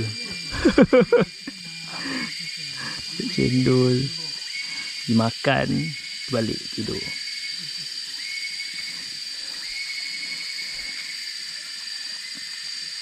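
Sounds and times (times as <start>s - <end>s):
insects droning: 0.0s - 13.0s
lower insect buzzing: 0.0s - 13.0s.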